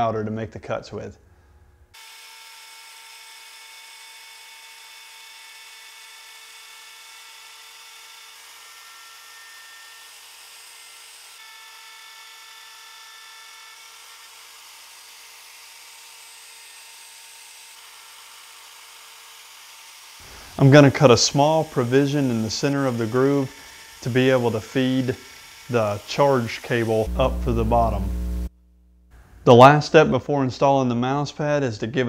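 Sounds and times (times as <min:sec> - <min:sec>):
router whining while cutting wood: 0:02.0 - 0:28.5.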